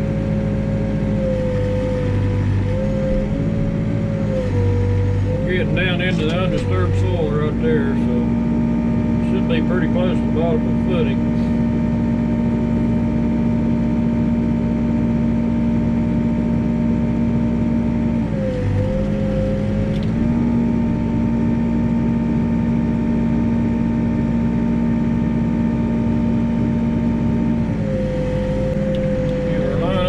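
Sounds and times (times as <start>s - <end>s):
backhoe engine running: 0.0s - 30.0s.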